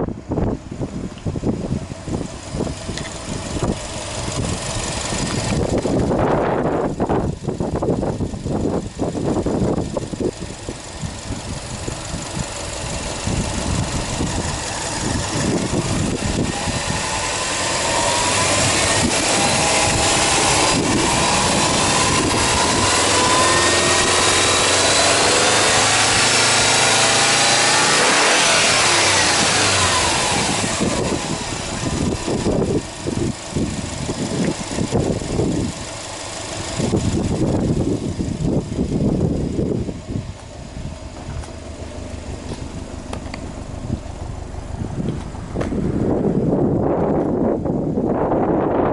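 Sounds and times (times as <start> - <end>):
car engine revving: 1.5 - 48.9.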